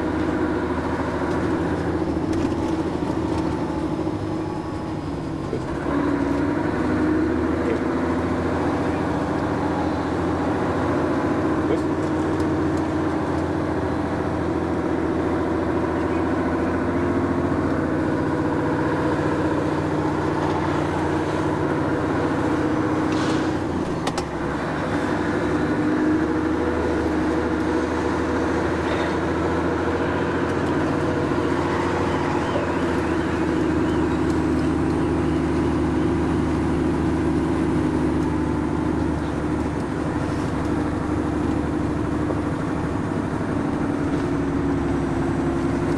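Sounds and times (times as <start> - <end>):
truck diesel engine running: 0.0 - 45.9.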